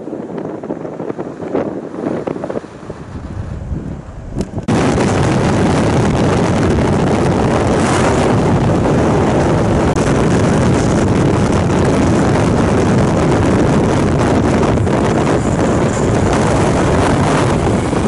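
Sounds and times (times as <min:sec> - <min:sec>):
car road and wind noise: 0:00.0 - 0:18.0
wind buffeting microphone: 0:00.0 - 0:18.0.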